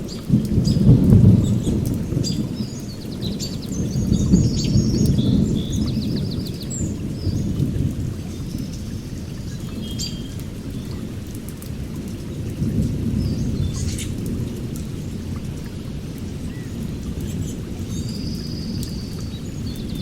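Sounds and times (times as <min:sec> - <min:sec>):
birds chirping: 0:00.0 - 0:11.6, 0:12.2 - 0:15.5, 0:16.2 - 0:20.0.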